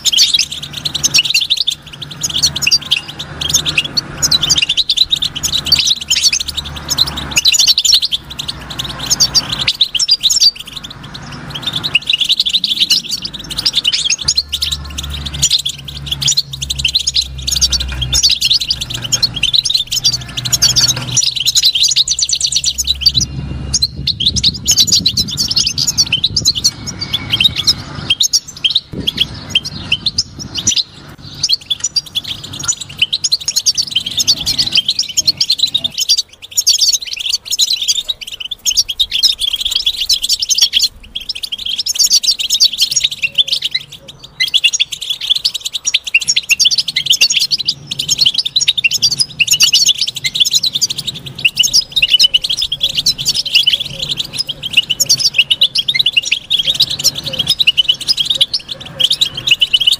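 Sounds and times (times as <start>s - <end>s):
finch twittering song: 0.0s - 59.9s.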